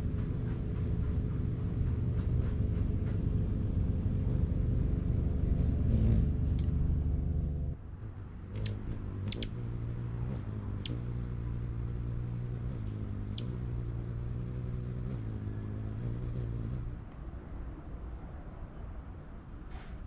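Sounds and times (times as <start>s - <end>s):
vehicle engine humming: 0.0s - 17.3s.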